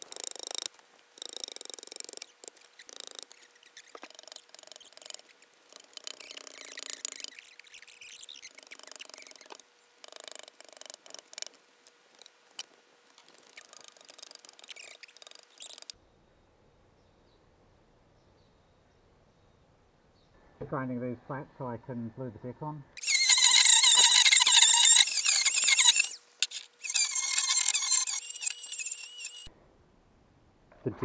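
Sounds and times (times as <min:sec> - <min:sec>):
faint steady background noise: 0:00.0 - 0:31.0.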